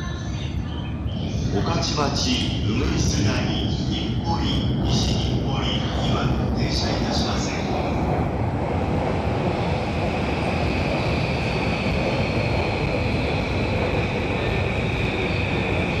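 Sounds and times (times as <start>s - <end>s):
electric train rumbling: 0.0s - 16.0s
high train whine: 0.0s - 16.0s.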